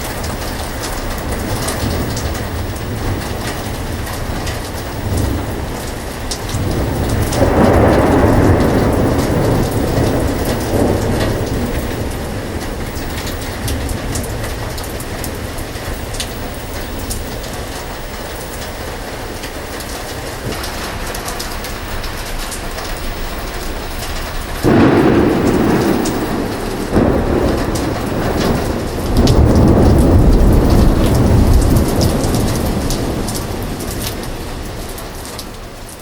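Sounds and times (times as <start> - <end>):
thunder rolling: 0.0 - 35.7
heavy rain: 0.0 - 36.0.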